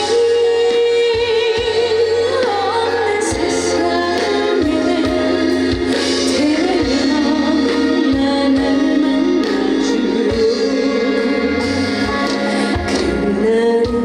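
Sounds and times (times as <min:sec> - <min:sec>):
amplified band with drum beat: 0:00.0 - 0:14.0
woman singing with vibrato: 0:00.0 - 0:14.0.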